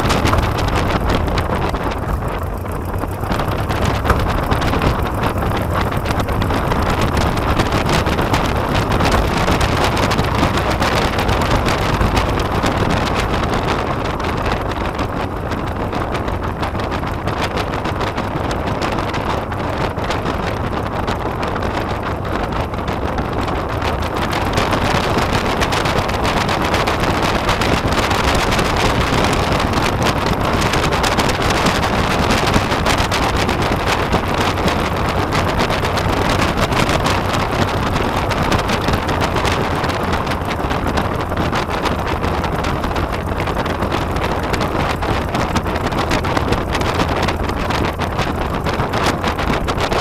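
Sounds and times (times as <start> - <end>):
plane engine at low power: 0.0 - 50.0
propeller wind buffeting microphone: 0.0 - 50.0.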